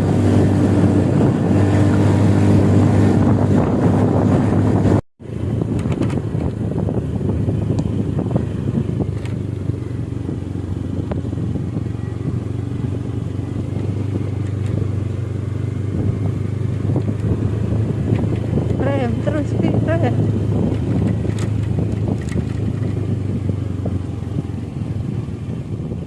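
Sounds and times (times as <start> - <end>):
motorcycle engine humming: 0.0 - 26.0
road and air noise: 0.0 - 26.0.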